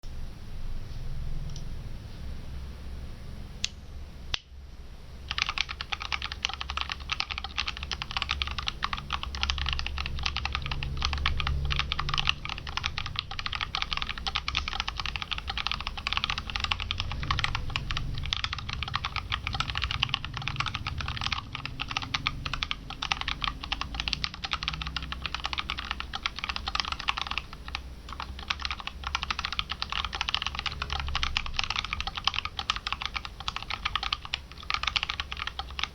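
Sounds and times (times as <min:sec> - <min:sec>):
fast typing on mechanical keyboard: 0:05.3 - 0:35.9.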